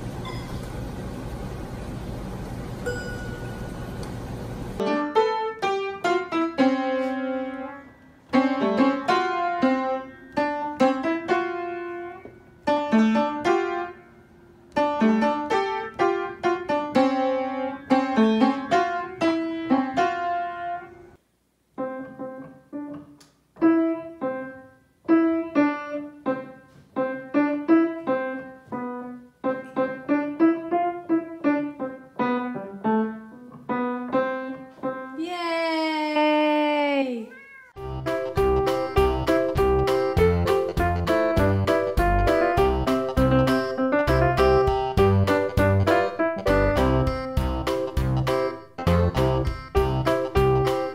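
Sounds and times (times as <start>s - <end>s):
piano notes and chords: 2.8s - 21.2s, 21.8s - 35.2s, 37.8s - 50.9s.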